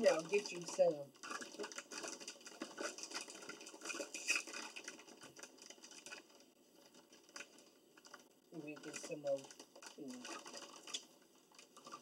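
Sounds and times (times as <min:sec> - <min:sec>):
chip bag crinkling: 0:00.0 - 0:12.0.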